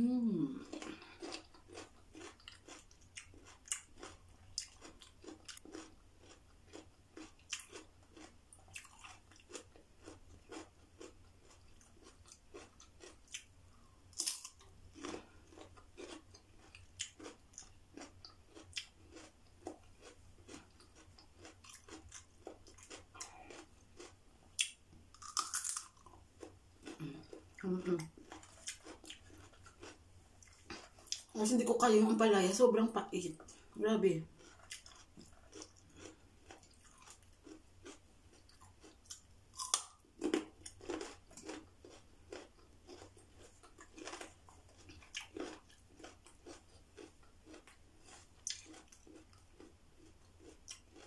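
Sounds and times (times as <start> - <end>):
chewing raw vegetables: 0.4 - 31.6, 33.3 - 51.0.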